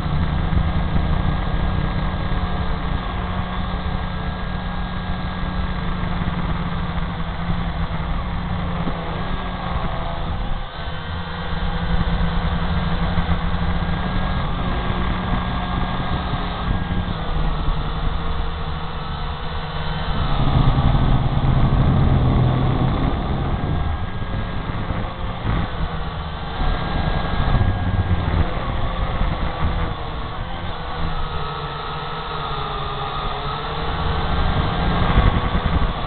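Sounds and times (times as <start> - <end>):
drone motors humming: 0.0 - 36.0.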